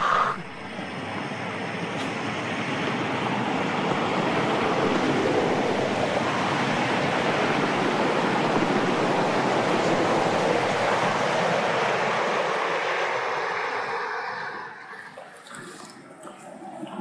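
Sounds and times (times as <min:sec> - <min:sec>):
steady rushing noise: 0:00.0 - 0:15.1.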